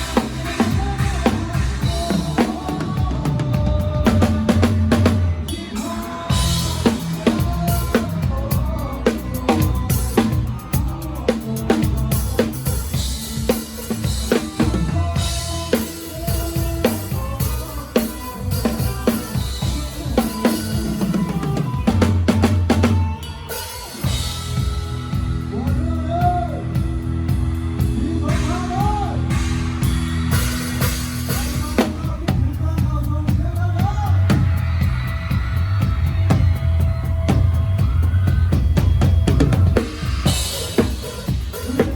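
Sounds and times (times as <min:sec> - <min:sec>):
drum kit beat: 0:00.0 - 0:41.9
live band playing: 0:00.0 - 0:41.9.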